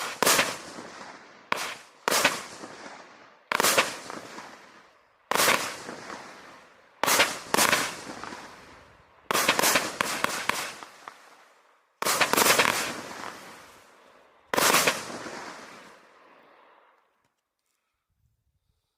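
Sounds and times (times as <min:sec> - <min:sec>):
firework bangs: 0:00.0 - 0:16.2
firework sharp cracks: 0:00.0 - 0:17.0.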